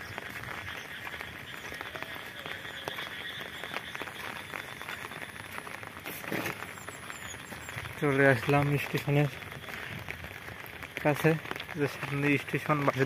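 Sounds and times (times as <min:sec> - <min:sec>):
footsteps on wet gravel: 0:00.0 - 0:13.0
light rain pattering: 0:00.0 - 0:13.0.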